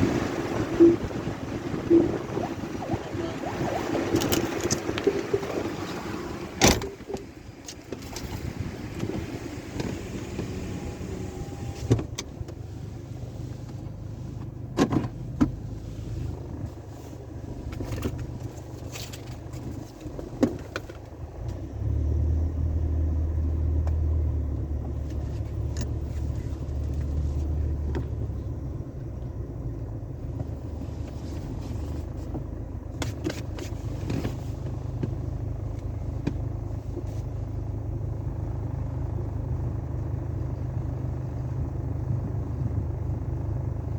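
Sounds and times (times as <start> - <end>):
car wash rumbling: 0.0 - 21.5, 22.8 - 43.9.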